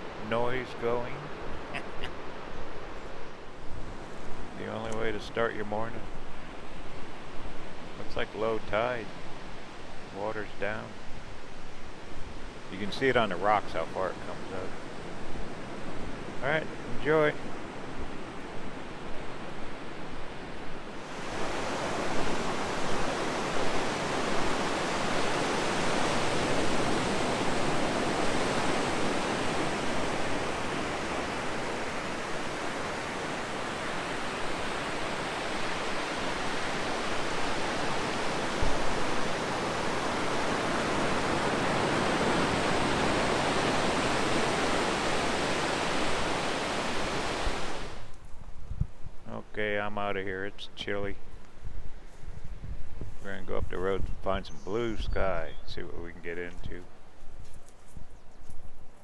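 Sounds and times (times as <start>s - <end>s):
waves breaking: 0.0s - 48.2s.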